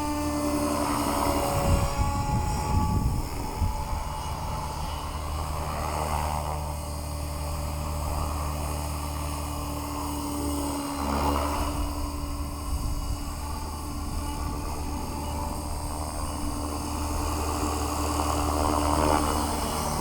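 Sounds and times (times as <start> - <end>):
electric model helicopter humming: 0.0 - 20.0.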